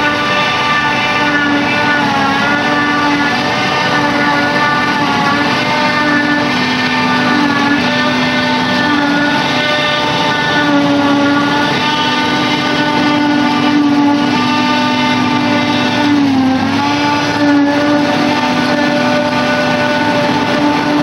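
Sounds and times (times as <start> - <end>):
forage harvester engine whining: 0.0 - 21.0.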